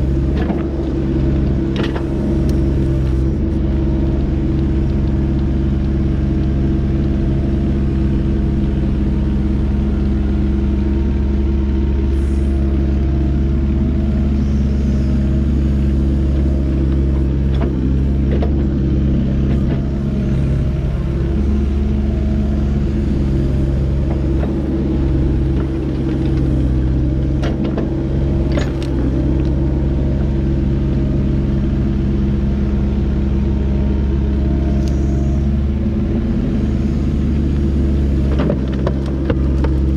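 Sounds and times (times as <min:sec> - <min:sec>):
heavy machine engine running: 0:00.0 - 0:39.9.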